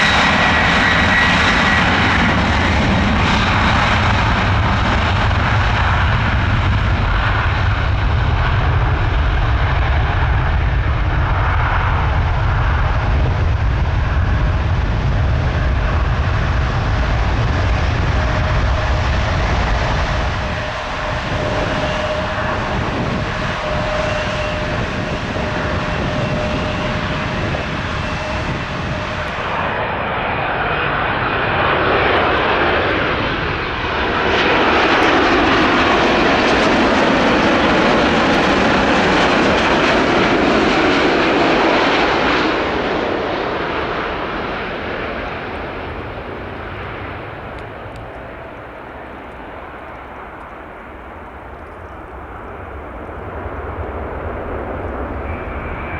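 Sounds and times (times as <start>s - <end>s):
airliner passing overhead: 0.0s - 55.9s
jet airliner engines: 0.0s - 55.9s.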